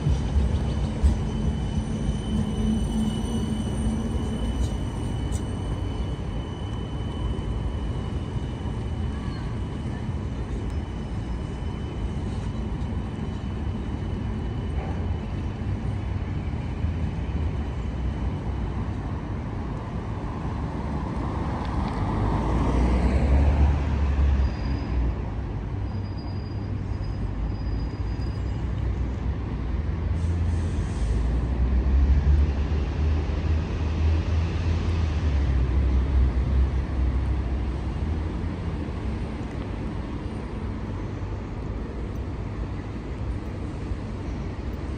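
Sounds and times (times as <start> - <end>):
city street traffic: 0.0 - 44.9.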